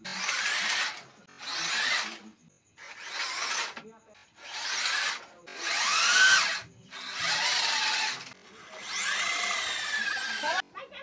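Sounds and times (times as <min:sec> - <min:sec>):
small electric motor whirring: 0:00.0 - 0:10.6.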